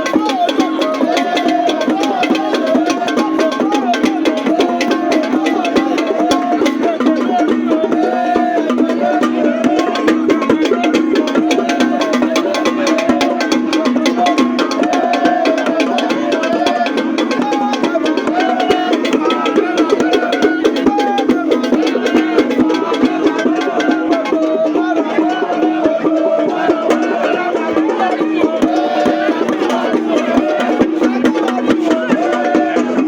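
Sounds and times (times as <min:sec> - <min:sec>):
music with busy percussion: 0:00.0 - 0:33.0.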